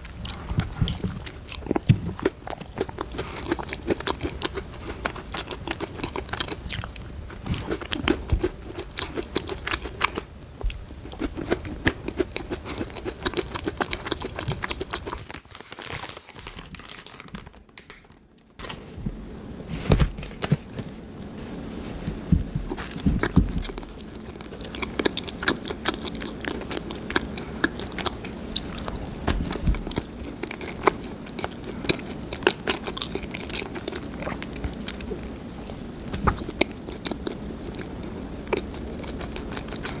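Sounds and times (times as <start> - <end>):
chewing bread roll: 0.0 - 15.5, 21.7 - 40.0
biting and chewing cookie: 0.0 - 15.8, 22.0 - 40.0.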